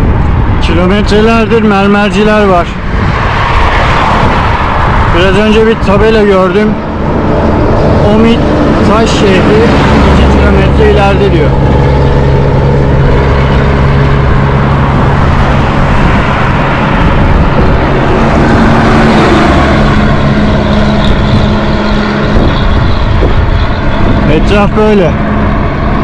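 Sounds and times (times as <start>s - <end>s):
engine hum: 0.0s - 26.0s
road traffic rushing: 0.0s - 26.0s.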